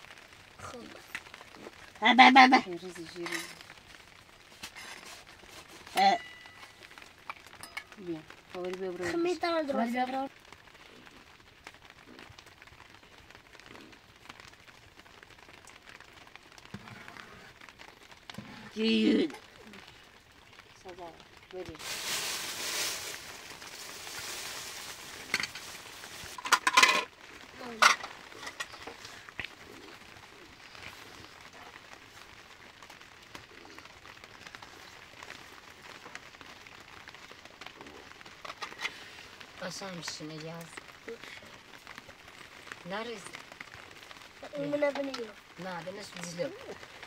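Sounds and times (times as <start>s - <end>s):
faint steady hiss: 0.0s - 47.0s
wood fire crackling: 0.0s - 47.0s.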